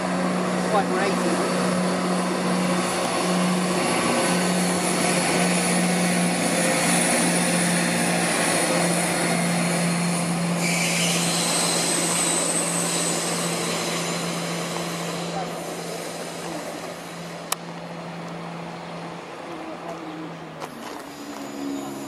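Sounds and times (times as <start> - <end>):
diesel train engines droning: 0.0 - 22.0.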